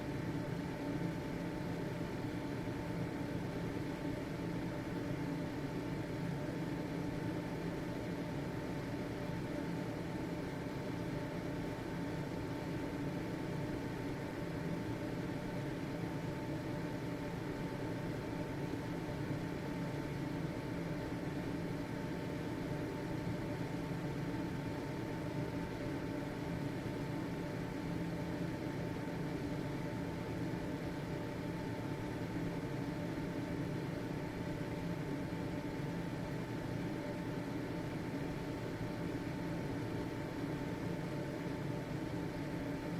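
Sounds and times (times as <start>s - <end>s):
ventilation fan whooshing hum: 0.0s - 42.9s.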